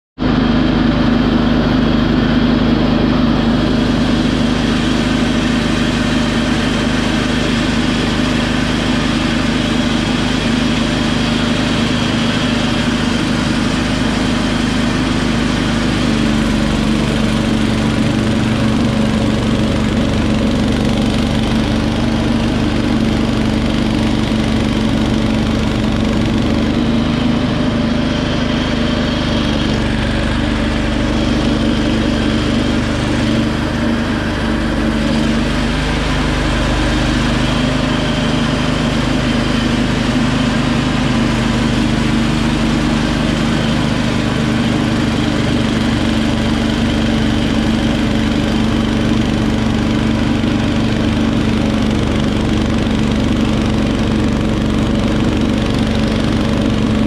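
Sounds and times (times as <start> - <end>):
garden tractor engine running: 0.2 - 57.0.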